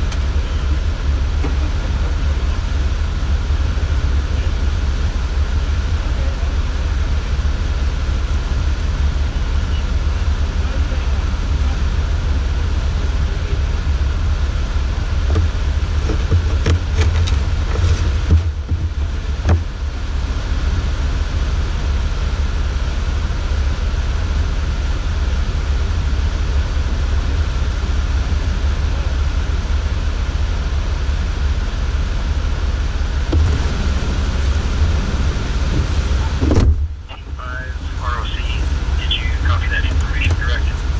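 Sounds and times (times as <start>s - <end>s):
vehicle cabin driving rumble: 0.0s - 40.9s.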